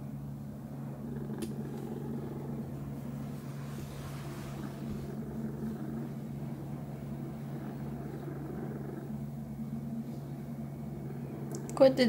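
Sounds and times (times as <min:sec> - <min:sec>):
cat purring: 0:00.7 - 0:12.0.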